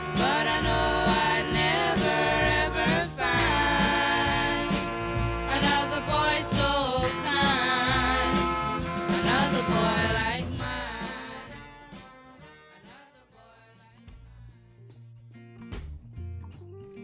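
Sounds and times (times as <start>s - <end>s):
song with singing over instruments: 0.0s - 14.5s.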